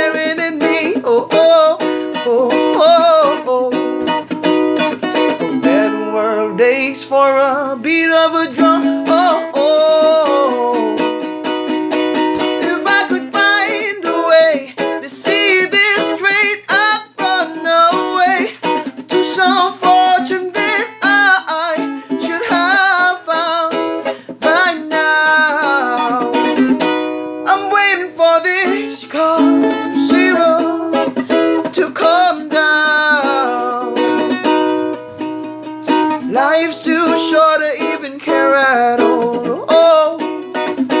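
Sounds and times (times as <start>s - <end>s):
person singing wordlessly: 0.0s - 35.0s, 35.6s - 41.0s
ukulele playing: 0.0s - 41.0s.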